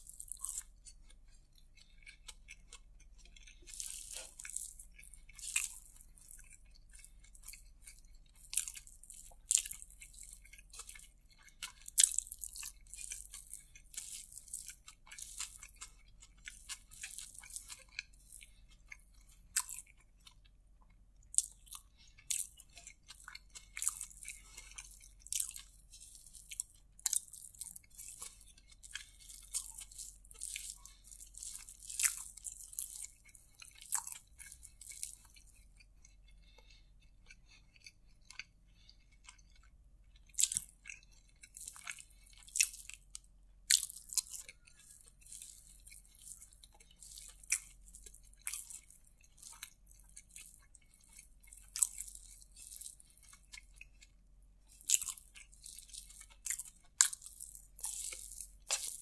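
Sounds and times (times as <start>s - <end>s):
wet chewing clicks and crackles: 0.0s - 59.0s.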